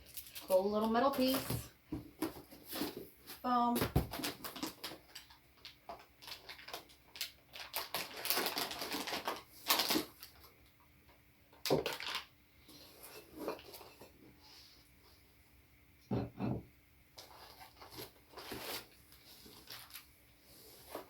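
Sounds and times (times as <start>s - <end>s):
foam packing rustling and crinkling: 0.0s - 10.6s, 11.7s - 14.2s, 17.2s - 21.0s.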